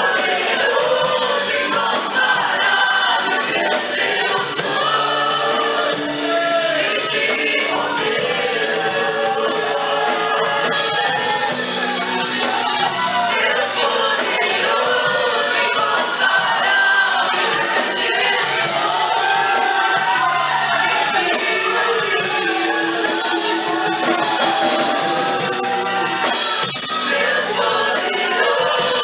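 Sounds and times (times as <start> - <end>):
choir singing worship song: 0.0 - 29.0
instrumental accompaniment: 0.0 - 29.0.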